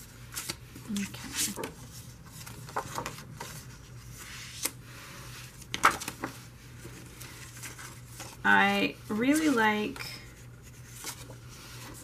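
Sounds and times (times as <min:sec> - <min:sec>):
faint steady hum: 0:00.0 - 0:12.0
paper rustling and flapping: 0:00.3 - 0:04.8, 0:05.4 - 0:08.4, 0:09.3 - 0:12.0.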